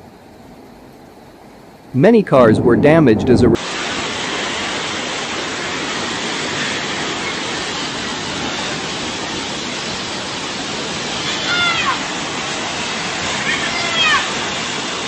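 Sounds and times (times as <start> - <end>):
rushing storm noise: 0.6 - 15.0.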